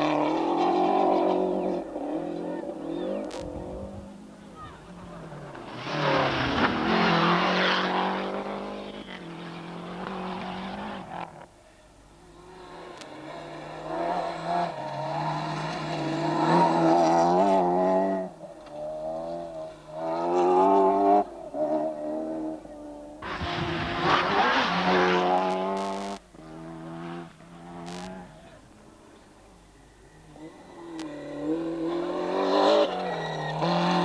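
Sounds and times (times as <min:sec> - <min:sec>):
rally car accelerating through gears: 0:00.0 - 0:04.3, 0:05.1 - 0:11.4, 0:12.3 - 0:28.5, 0:30.3 - 0:34.0
rally car engine at full throttle: 0:00.0 - 0:11.5, 0:12.1 - 0:34.0.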